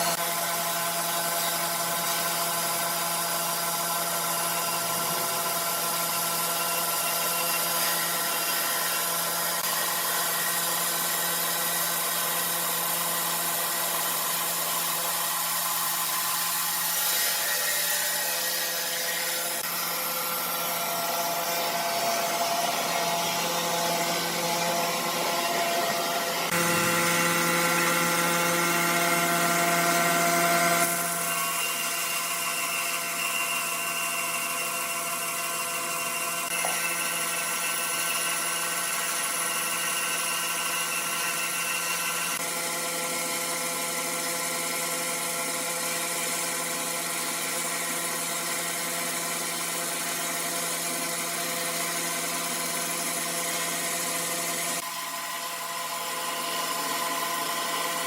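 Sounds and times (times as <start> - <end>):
sawmill saw cutting wood: 0.0 - 58.0.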